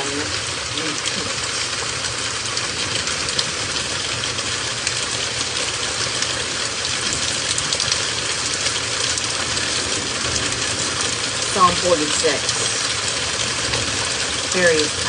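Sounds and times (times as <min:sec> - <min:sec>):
heavy rain falling: 0:00.0 - 0:15.0
low steady rumble: 0:00.0 - 0:15.0.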